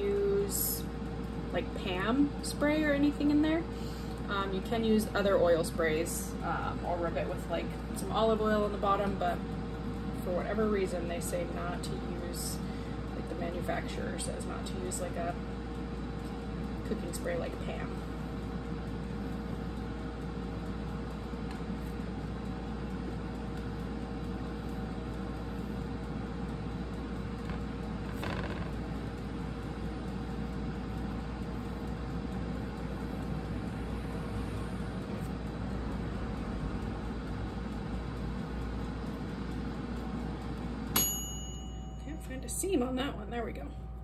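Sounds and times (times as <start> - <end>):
air fryer fan humming: 0.0 - 44.0.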